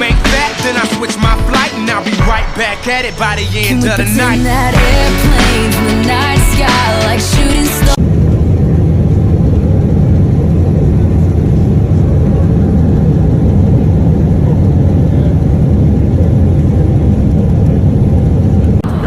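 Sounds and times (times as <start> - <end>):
aircraft engines rumbling: 0.0 - 19.0.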